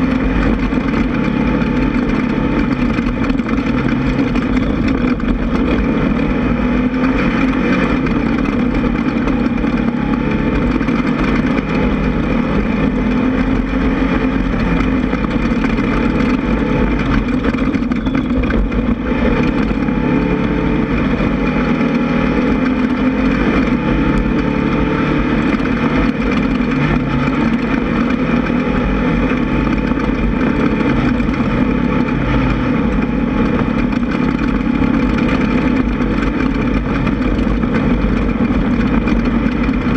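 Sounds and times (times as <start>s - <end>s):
buggy engine running: 0.0s - 39.9s.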